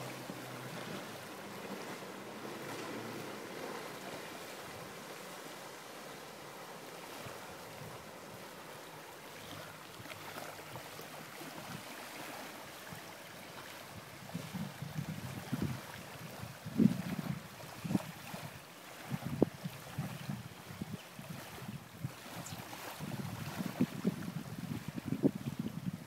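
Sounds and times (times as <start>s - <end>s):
distant outboard motor hum: 0.0s - 26.0s
small waves on water: 0.0s - 26.0s
wind: 0.0s - 26.0s.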